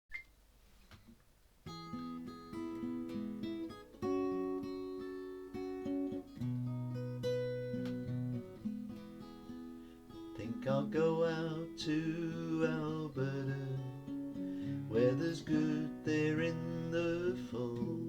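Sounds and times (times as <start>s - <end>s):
acoustic guitar picking and strumming: 1.6s - 18.0s.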